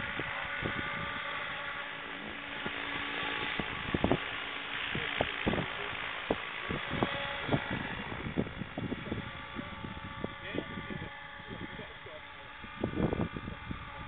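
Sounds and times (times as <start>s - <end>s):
model helicopter motor whine: 0.0s - 14.0s
wind buffeting microphone: 0.0s - 14.0s.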